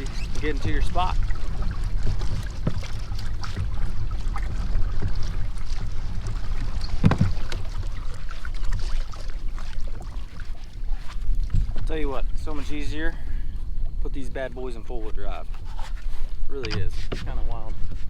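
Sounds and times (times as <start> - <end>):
pedal kayak low rumble: 0.0 - 18.0.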